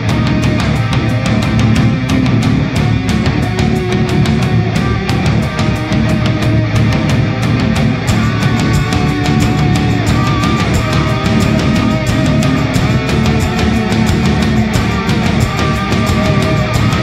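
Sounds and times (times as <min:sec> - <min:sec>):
distorted guitar: 0:00.0 - 0:17.0
fast drumbeat: 0:00.0 - 0:17.0.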